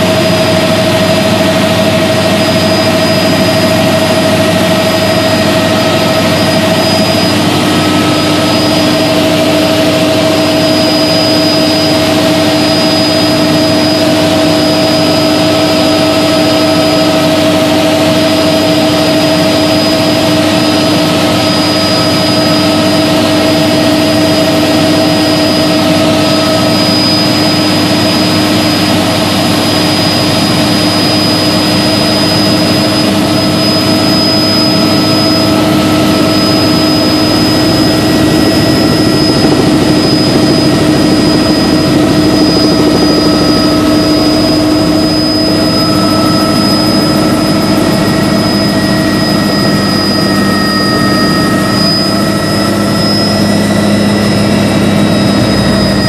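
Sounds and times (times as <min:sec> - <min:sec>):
helicopter engine and rotor drone: 0:00.0 - 0:56.0
high whine: 0:00.0 - 0:56.0.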